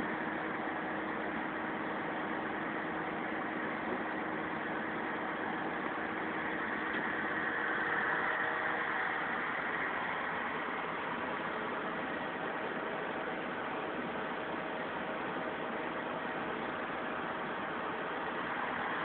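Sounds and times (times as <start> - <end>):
diesel engine idling: 0.1 - 15.3.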